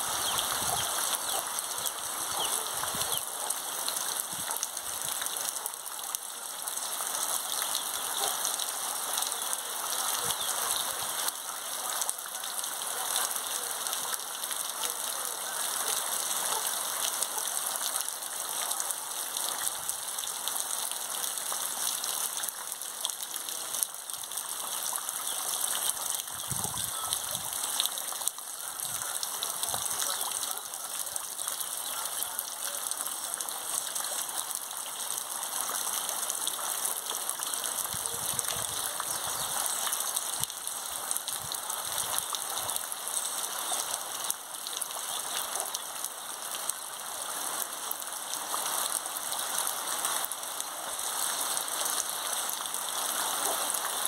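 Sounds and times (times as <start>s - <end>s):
heavy rain on trees and ground: 0.0s - 54.0s.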